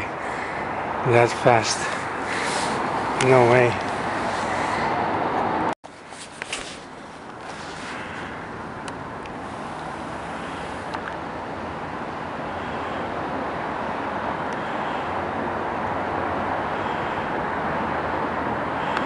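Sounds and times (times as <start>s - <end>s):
distant vehicle rushing: 0.0s - 5.8s, 6.6s - 19.0s.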